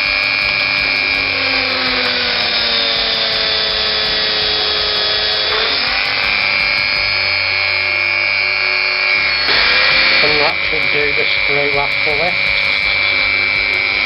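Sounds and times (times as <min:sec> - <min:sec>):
rotary tool grinding metal: 0:00.0 - 0:14.0.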